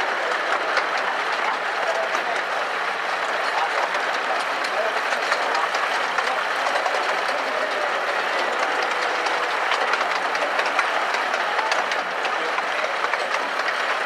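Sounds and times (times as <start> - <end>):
wheels rattling on rail: 0.0 - 14.0.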